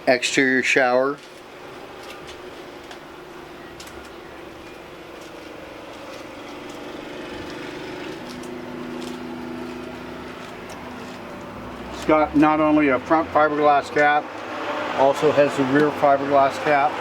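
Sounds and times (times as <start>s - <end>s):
vehicle engine running: 0.3s - 17.0s.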